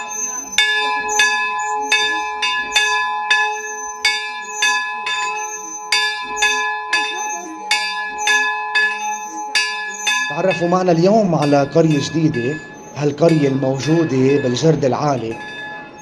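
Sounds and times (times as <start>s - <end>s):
church bell ringing: 0.0s - 16.0s.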